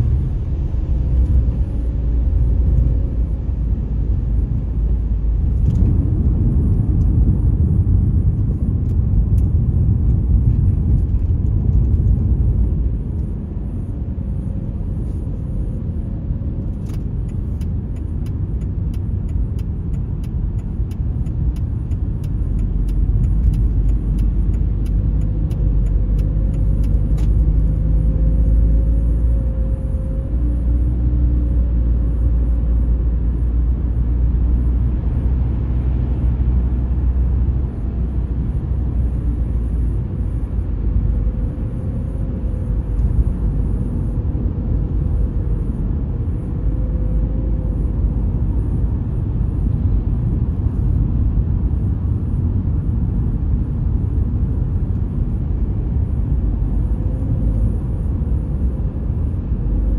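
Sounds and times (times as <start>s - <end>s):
vehicle tyres and engine rumble: 0.0s - 59.9s.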